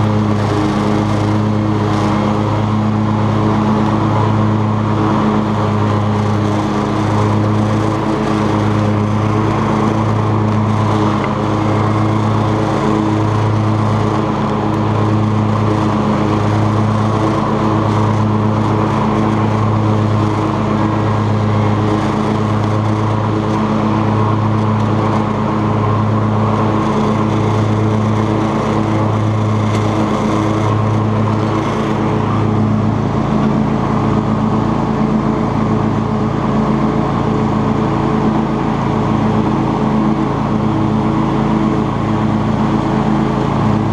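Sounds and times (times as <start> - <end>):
lawn tractor engine mowing: 0.0 - 43.9.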